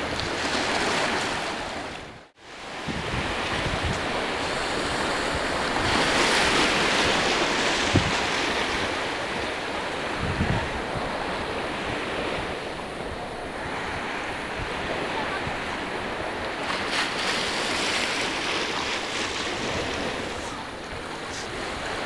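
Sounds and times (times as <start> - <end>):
surf washing over sandy shore: 0.0 - 22.0.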